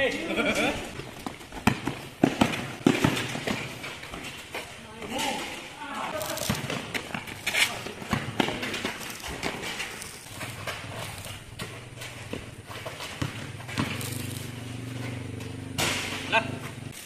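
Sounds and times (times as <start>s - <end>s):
sneakers running: 0.0s - 17.0s
basketball bouncing on concrete: 0.8s - 16.9s.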